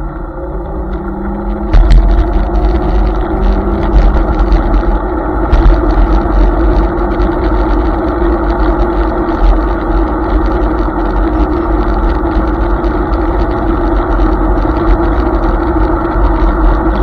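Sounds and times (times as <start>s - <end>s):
steady hum: 0.0s - 17.0s
tyre and road noise: 0.0s - 17.0s
wind buffeting microphone: 0.0s - 17.0s.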